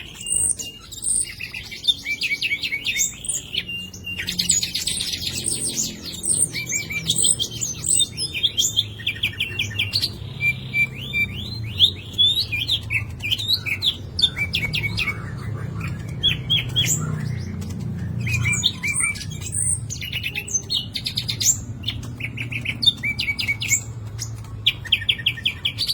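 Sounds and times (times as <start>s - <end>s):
bird singing fast trills and chirps: 0.0s - 25.9s.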